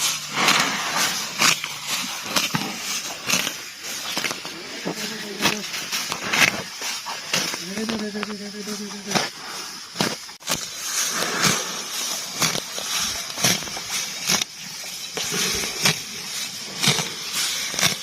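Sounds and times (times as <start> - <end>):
buffalo tearing and chewing grass: 0.0 - 18.0.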